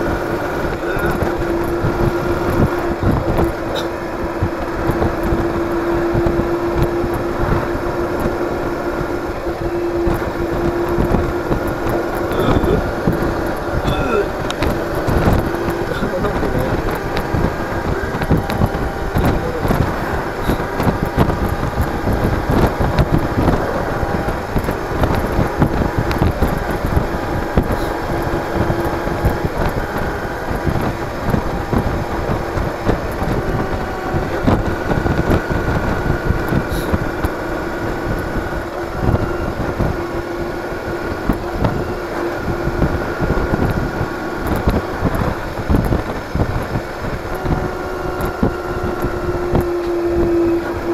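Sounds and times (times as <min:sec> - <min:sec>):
motorcycle engine running: 0:00.0 - 0:50.9
wind rushing: 0:00.0 - 0:50.9.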